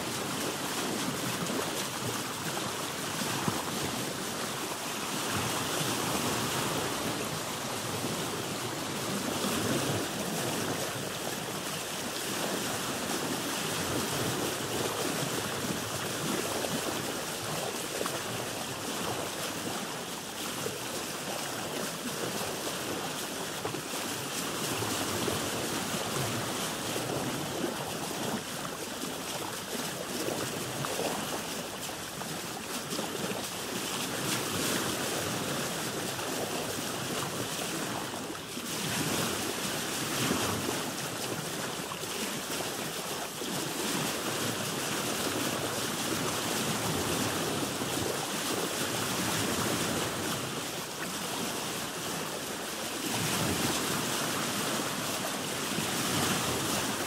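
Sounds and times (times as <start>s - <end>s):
sea waves washing around a boat: 0.0s - 57.0s.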